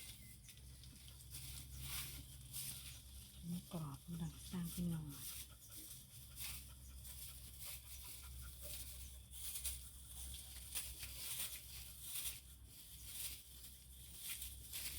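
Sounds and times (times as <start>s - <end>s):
pig rustling dry bedding: 0.0s - 14.9s.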